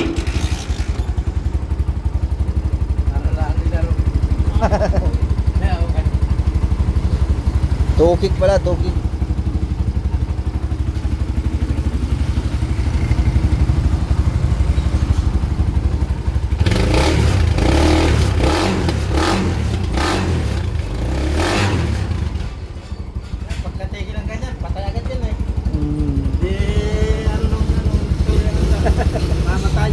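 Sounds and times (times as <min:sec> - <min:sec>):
two-stroke engine idling and revving: 0:00.0 - 0:29.9.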